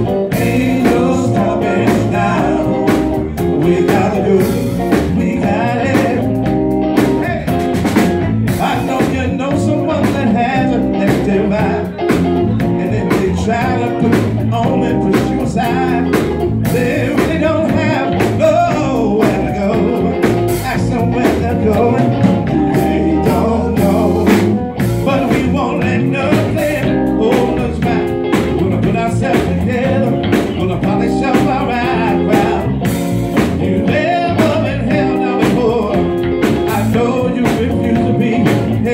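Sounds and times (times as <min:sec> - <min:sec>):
man singing into a microphone: 0:00.0 - 0:07.6, 0:08.5 - 0:32.9, 0:33.6 - 0:38.9
drum kit beat: 0:00.0 - 0:38.9
electric bass: 0:00.0 - 0:38.9.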